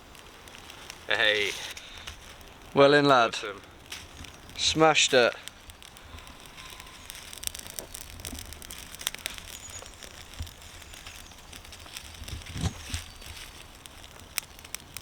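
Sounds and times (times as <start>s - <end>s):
campfire crackling: 0.0s - 15.0s
sharp pops of fire: 0.0s - 15.0s.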